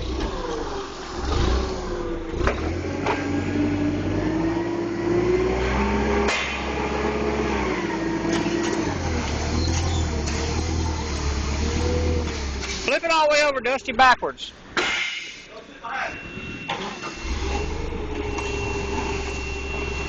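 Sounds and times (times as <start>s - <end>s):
engine running: 0.0s - 12.9s, 16.7s - 20.0s.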